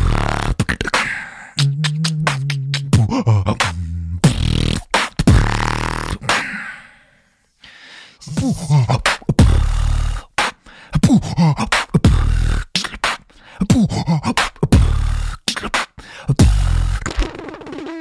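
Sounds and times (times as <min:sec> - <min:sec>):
beatboxing: 0:00.0 - 0:06.8, 0:08.2 - 0:18.0.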